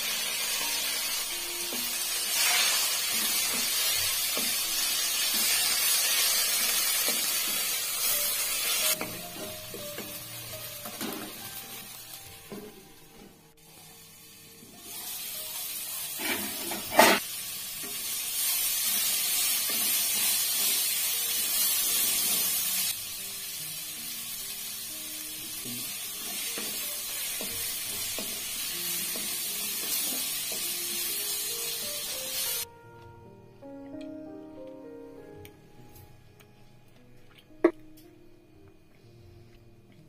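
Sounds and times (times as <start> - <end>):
onions sizzling in hot oil: 0.0 - 32.7.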